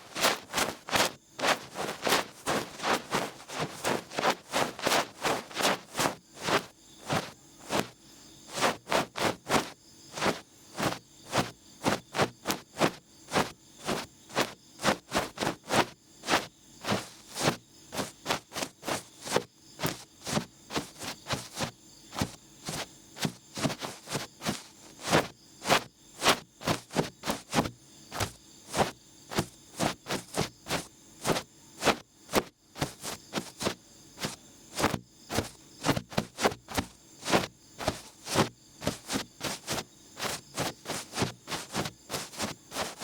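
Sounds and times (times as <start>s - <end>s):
ear pick brushing on microphone: 0.0s - 43.0s.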